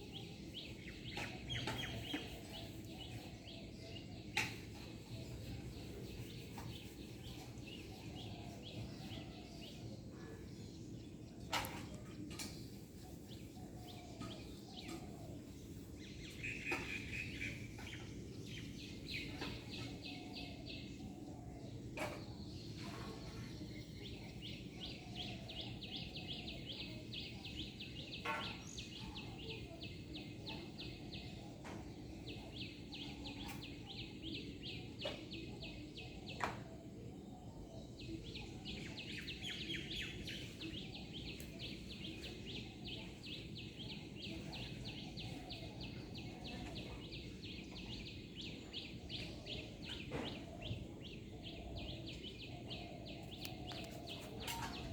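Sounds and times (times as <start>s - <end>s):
bird chirping: 0.0s - 36.5s, 37.5s - 54.9s.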